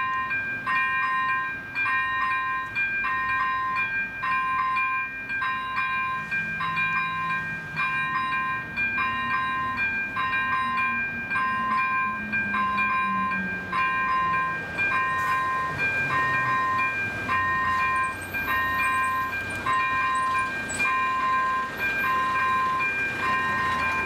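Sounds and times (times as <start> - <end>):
electronic warning bell ringing: 0.0 - 24.0.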